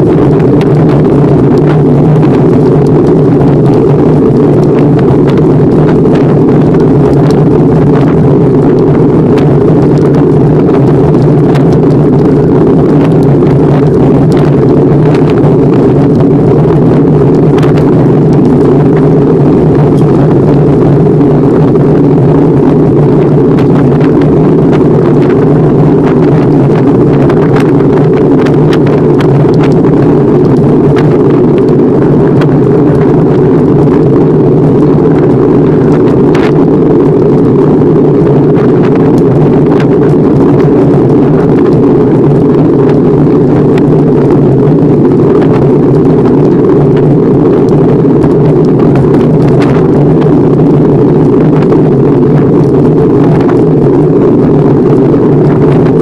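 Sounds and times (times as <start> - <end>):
bicycle tyre and frame noise: 0.0 - 56.0
wind buffeting microphone: 0.0 - 56.0.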